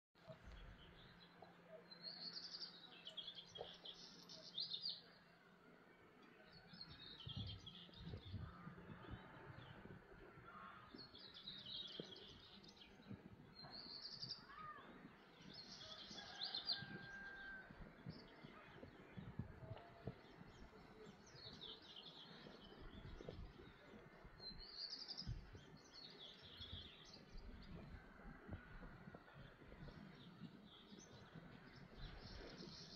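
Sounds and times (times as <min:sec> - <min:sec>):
songbirds trilling: 0:00.5 - 0:32.9.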